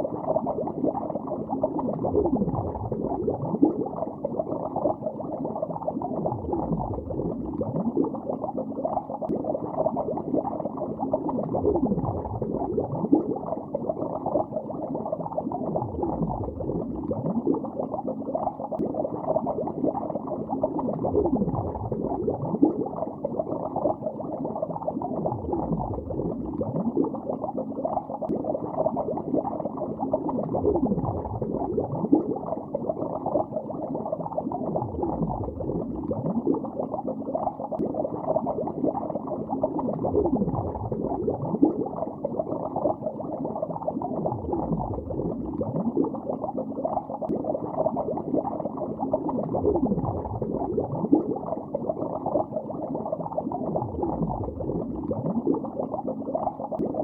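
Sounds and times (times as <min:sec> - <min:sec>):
underwater bubbling and gurgling: 0:00.0 - 0:57.0.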